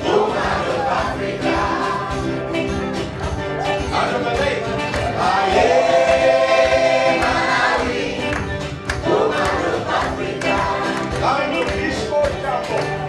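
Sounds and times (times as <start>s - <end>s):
voices singing in chorus: 0.0s - 2.8s, 4.4s - 12.1s.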